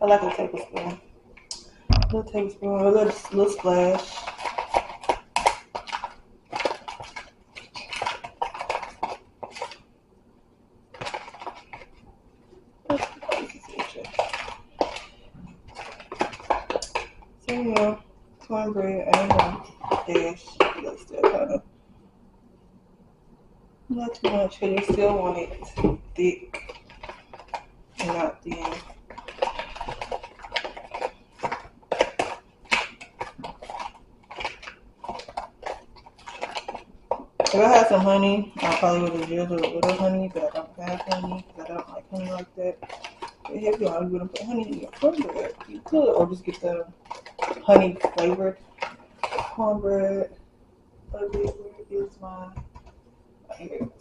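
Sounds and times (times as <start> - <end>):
spoon stirring batter in bowl: 0.2 - 9.9, 10.9 - 21.5, 23.9 - 50.3.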